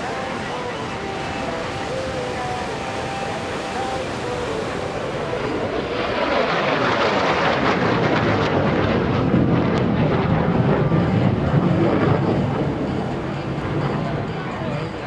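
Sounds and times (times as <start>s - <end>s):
jet fighter roaring past: 0.0s - 15.0s.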